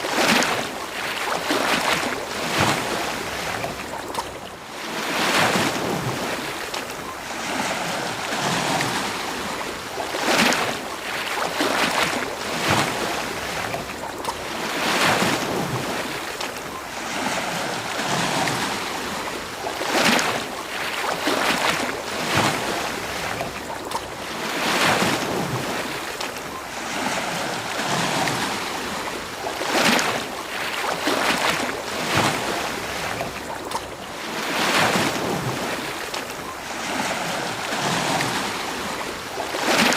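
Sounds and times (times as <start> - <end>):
ocean waves washing onto beach: 0.0 - 39.9.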